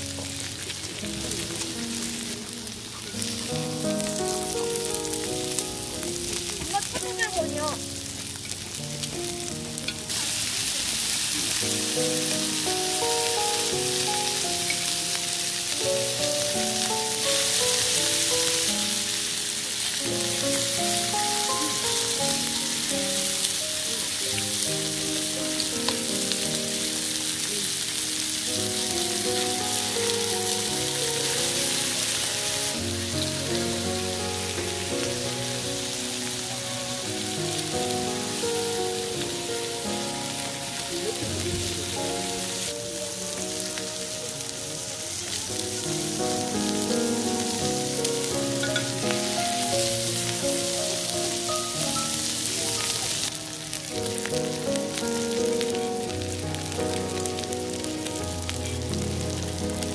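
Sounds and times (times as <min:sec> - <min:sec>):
meat and onions sizzling: 0:00.0 - 0:59.9
soft melody: 0:00.0 - 0:59.9.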